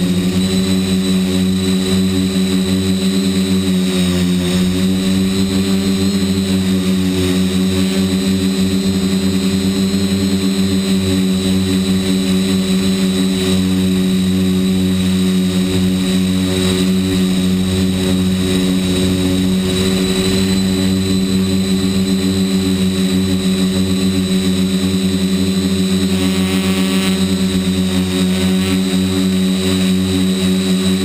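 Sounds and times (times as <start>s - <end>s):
quadcopter motors humming: 0.0s - 31.0s.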